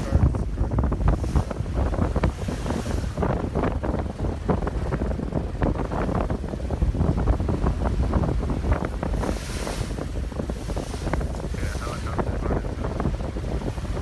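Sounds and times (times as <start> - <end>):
water washing along hull: 0.0 - 14.0
wind buffeting microphone: 0.0 - 14.0.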